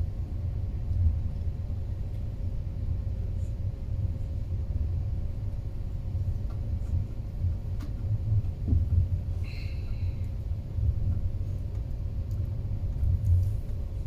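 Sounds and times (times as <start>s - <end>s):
faint hum: 0.0s - 14.0s
train rumbling inside carriage: 0.0s - 14.0s.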